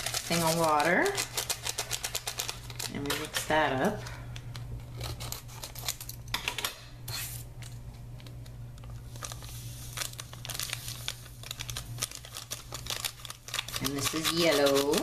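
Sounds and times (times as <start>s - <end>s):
foil sachet crinkling and tearing: 0.0s - 6.1s, 8.2s - 15.0s.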